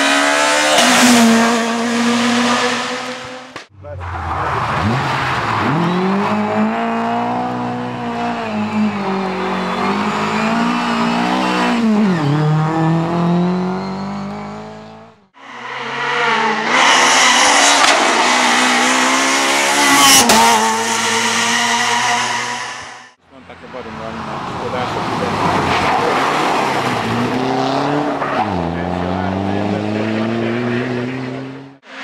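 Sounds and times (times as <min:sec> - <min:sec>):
rally car engine at high revs: 0:00.0 - 0:03.7, 0:04.4 - 0:23.2, 0:24.1 - 0:32.0.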